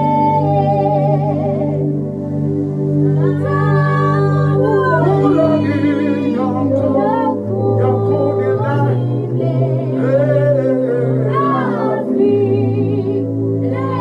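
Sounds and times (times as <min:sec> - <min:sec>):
long held low chords: 0:00.0 - 0:14.0
voices singing gospel: 0:00.0 - 0:14.0.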